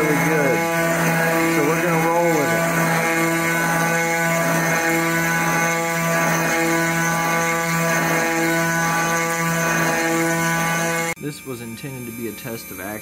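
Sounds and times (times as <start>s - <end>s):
milling spindle cutting whine: 0.0s - 13.0s.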